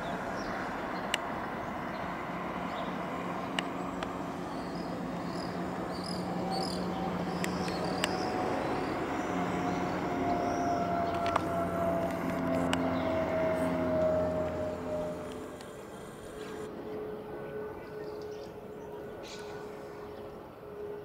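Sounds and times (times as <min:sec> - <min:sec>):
jet engine whine sliding down: 0:00.0 - 0:20.2
jet airliner rumble: 0:00.0 - 0:21.0.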